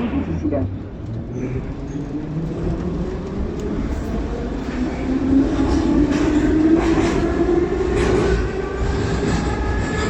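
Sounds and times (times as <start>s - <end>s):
metro train rumble: 0.0s - 10.0s.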